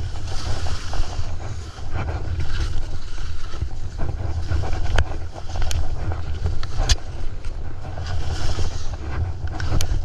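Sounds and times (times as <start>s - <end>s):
skis scraping over snow: 0.0s - 10.0s
wind buffeting microphone: 0.0s - 10.0s.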